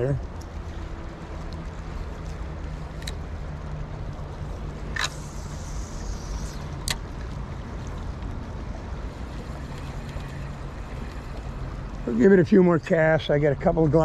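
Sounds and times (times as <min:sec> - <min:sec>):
river current rushing: 0:00.0 - 0:13.4.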